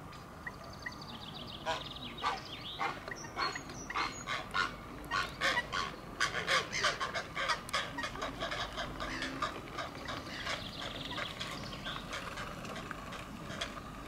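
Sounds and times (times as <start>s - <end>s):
herons harsh calls: 1.6s - 14.0s.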